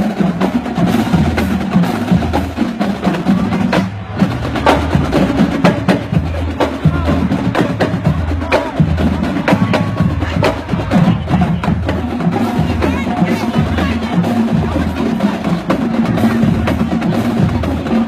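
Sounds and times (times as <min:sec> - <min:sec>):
snare drums: 0:00.0 - 0:18.0.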